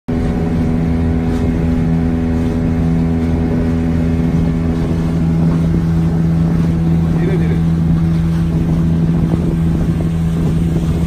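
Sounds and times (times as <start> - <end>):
boat motor droning: 0.1 - 11.0.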